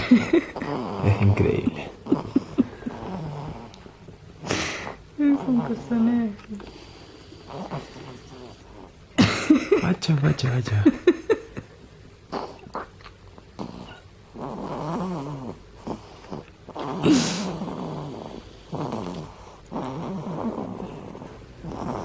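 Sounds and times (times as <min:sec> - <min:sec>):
baby snoring: 0:00.0 - 0:11.4, 0:12.2 - 0:22.0.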